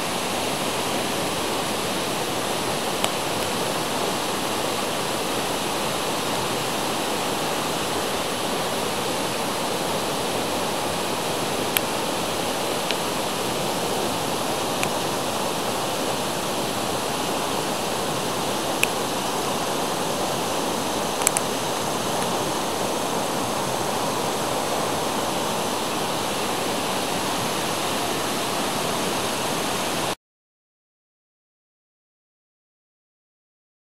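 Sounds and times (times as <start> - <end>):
running water: 0.0 - 30.2.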